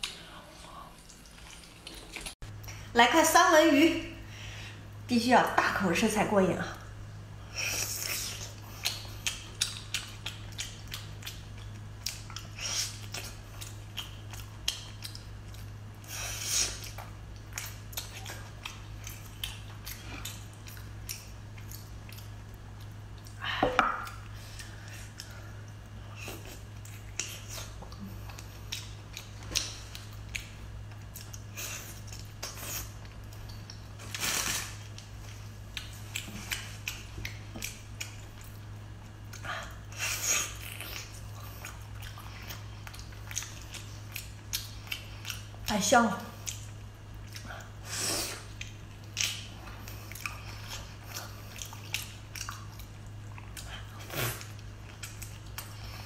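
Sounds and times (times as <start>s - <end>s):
wet chewing and lip-smacking: 0.0s - 2.8s, 7.6s - 56.0s
steady low hum: 0.0s - 56.0s.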